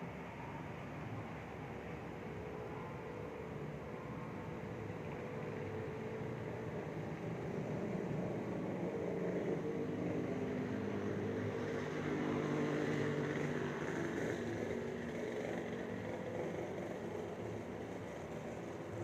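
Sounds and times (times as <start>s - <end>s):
distant traffic hum: 0.0s - 19.0s
faint engine drone: 0.0s - 19.0s.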